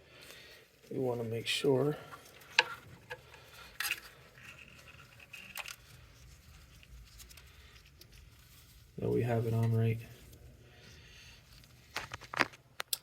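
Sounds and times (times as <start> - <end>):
faint rustling: 0.0 - 12.8.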